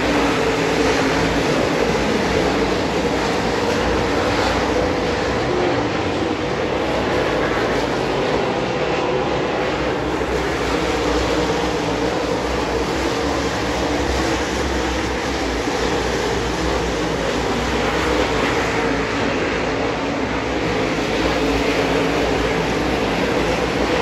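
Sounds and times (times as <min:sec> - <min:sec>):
race car engines roaring: 0:00.0 - 0:24.0.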